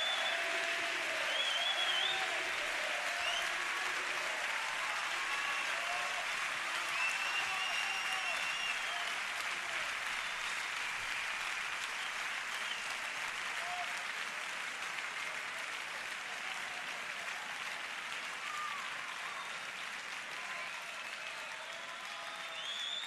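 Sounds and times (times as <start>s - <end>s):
audience applauding and cheering: 0.0s - 23.0s
calls from audience: 0.0s - 23.0s.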